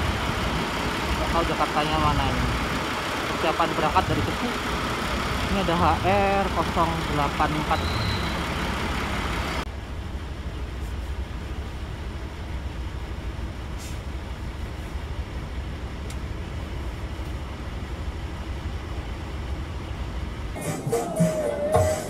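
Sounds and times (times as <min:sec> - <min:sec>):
coach engine rumbling: 0:00.0 - 0:22.0.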